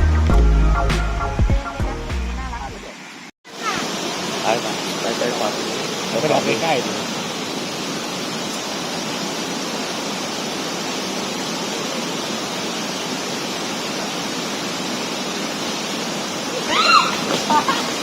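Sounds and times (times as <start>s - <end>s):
waterfall roaring: 3.0s - 18.0s.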